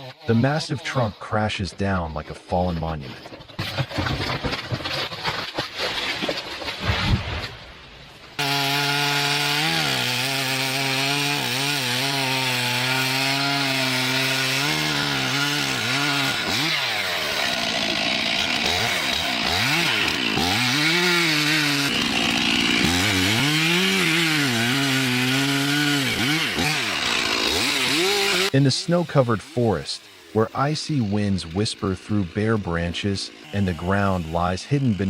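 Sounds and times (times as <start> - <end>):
chainsaw cutting wood: 2.6 - 7.6, 8.4 - 35.0.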